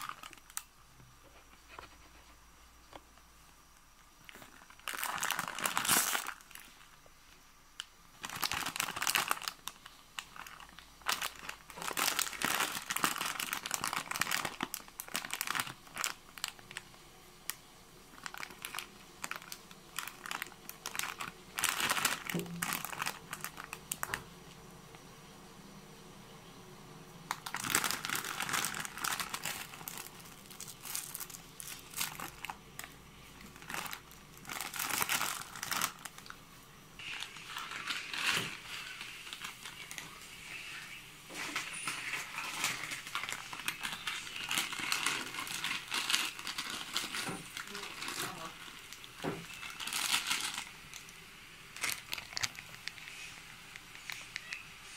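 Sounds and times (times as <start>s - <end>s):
plastic pouch crinkling: 0.0s - 0.7s, 4.2s - 7.0s, 7.8s - 24.2s, 27.3s - 36.4s, 37.0s - 54.9s
plastic sachet handled: 0.0s - 0.7s, 4.2s - 7.0s, 7.8s - 24.2s, 27.3s - 36.4s, 37.0s - 54.8s.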